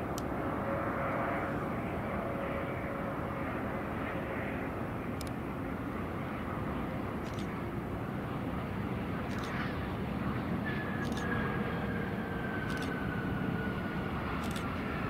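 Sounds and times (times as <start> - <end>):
faint jet engine whine: 0.0 - 15.0
jet engine rumble: 0.0 - 15.0.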